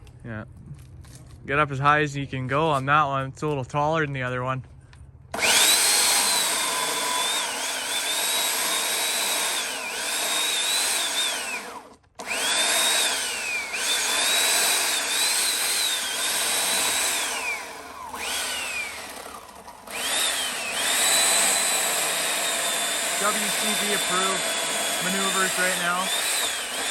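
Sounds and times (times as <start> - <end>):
electric chainsaw cutting wood: 5.3 - 26.9.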